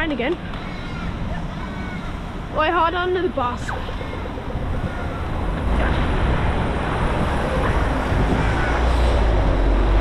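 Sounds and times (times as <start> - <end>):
wind and rain on microphone: 1.1 - 10.0.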